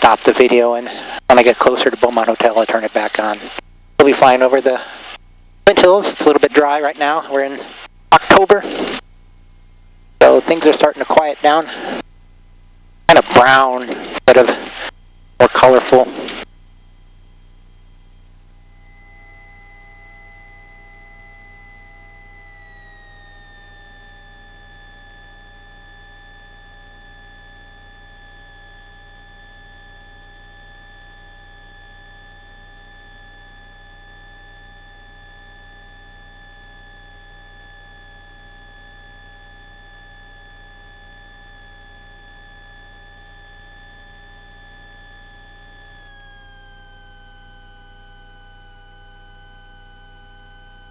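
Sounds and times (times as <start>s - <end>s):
high electrical whine: 0.0s - 50.9s.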